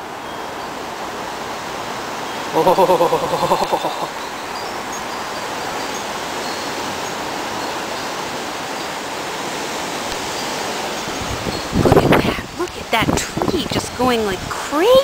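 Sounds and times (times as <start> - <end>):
strong wind through trees: 0.0 - 15.0.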